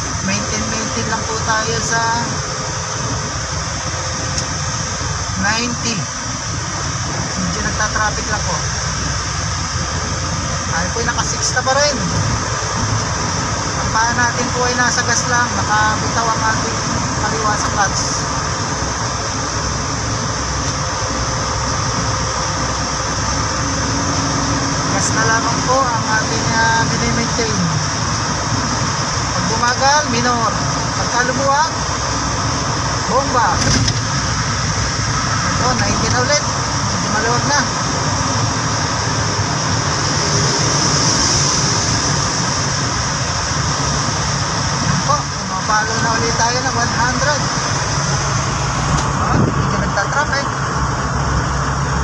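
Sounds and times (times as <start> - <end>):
in-cabin road and engine noise: 0.0 - 52.0.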